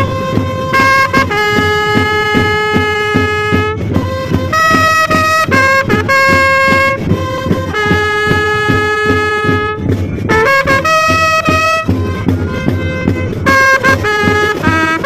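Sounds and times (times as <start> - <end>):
bugle playing held notes: 0.0 - 15.0
steady drum beat: 0.0 - 15.0.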